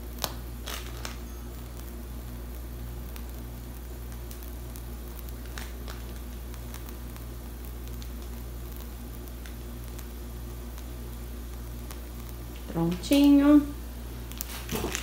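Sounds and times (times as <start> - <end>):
cream piped from pastry bag: 0.0 - 15.0
steady low hum: 0.0 - 15.0.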